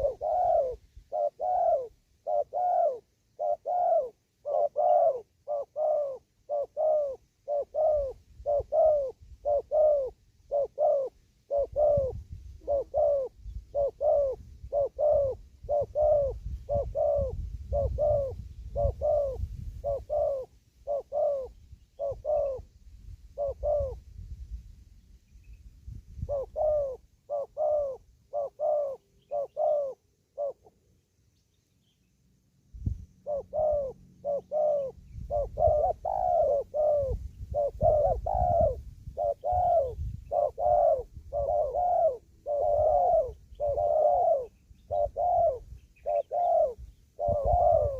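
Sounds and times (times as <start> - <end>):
dove cooing: 0.0 - 24.1, 26.2 - 30.9, 33.1 - 47.9.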